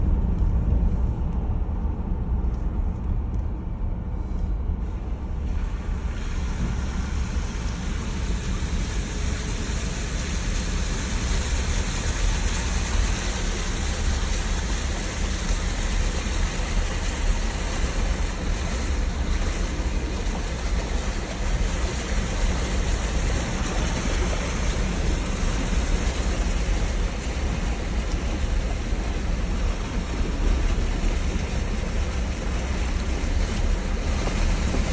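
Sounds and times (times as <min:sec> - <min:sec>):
rushing hiss: 0:05.5 - 0:34.9.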